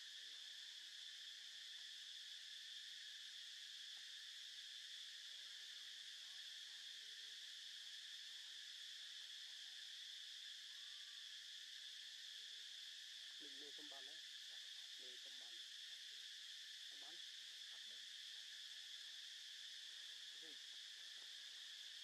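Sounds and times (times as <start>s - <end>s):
insects droning in trees: 0.0s - 22.0s.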